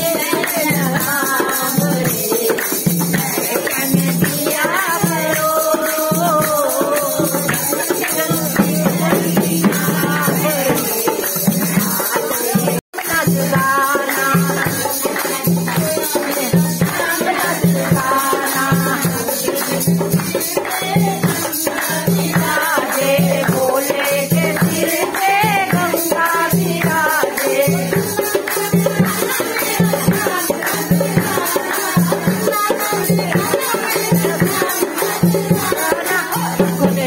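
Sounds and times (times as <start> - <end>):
hand-clapping: 0.0 - 36.7
rattling percussion: 0.0 - 37.0
women singing devotional song: 0.0 - 37.0.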